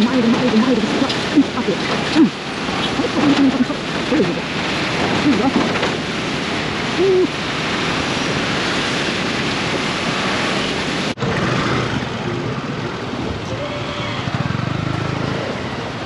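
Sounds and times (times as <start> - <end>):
traffic and road noise: 0.0 - 16.0.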